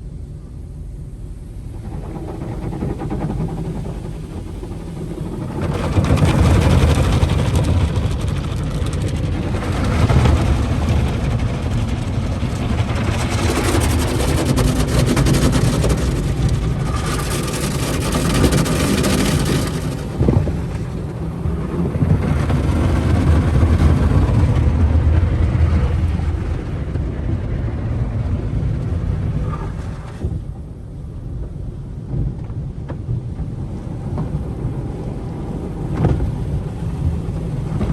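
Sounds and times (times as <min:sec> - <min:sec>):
heavy low rumble: 0:00.0 - 0:37.9.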